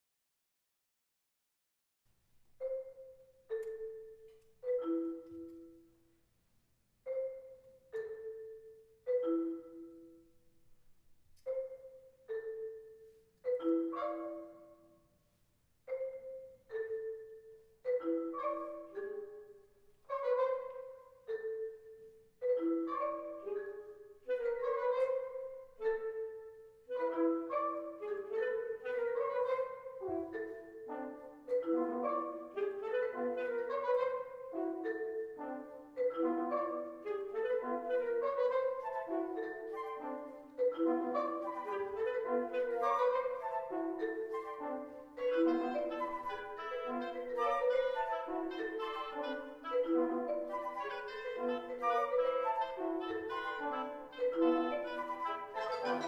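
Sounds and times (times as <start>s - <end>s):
tuned mallet percussion: 2.5s - 6.2s, 7.0s - 10.7s, 11.4s - 15.2s, 15.8s - 56.0s.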